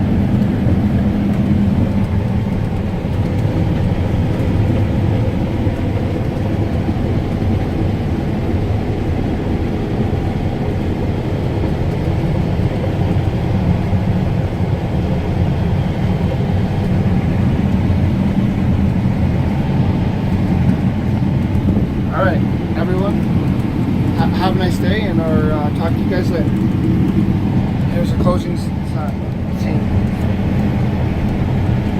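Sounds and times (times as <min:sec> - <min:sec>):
harvest machinery engine drone: 0:00.0 - 0:31.9.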